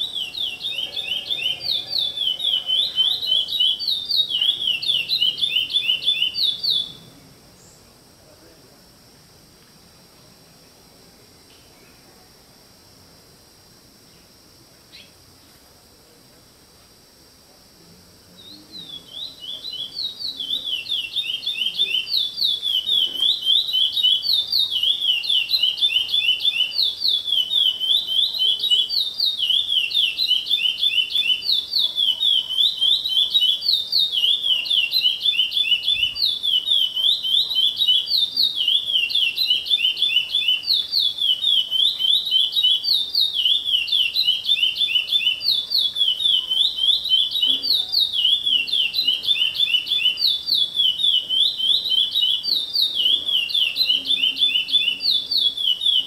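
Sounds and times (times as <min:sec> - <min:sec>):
songbird singing: 0:00.0 - 0:08.1, 0:09.8 - 0:13.0, 0:14.0 - 0:15.6, 0:18.2 - 0:56.0.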